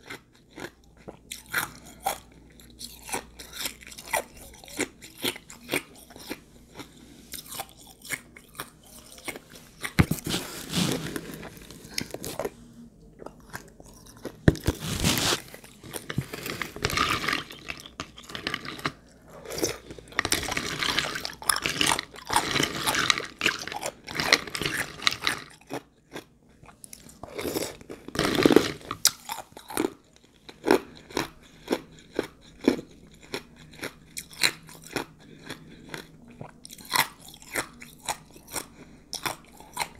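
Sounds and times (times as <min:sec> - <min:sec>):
chewing and crunching ice: 0:00.0 - 0:12.6, 0:13.2 - 0:39.9.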